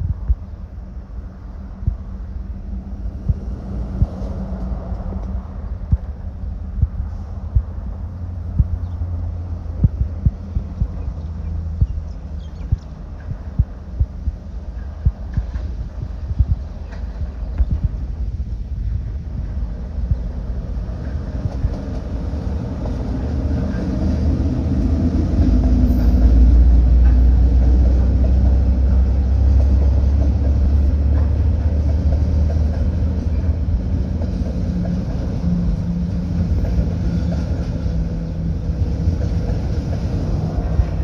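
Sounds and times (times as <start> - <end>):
diesel train rumbling past: 0.0 - 41.0.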